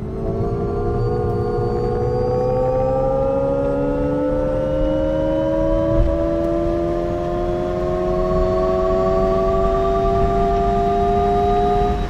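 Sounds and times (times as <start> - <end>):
electric car whine rising: 0.0 - 12.0
low road rumble: 0.0 - 12.0.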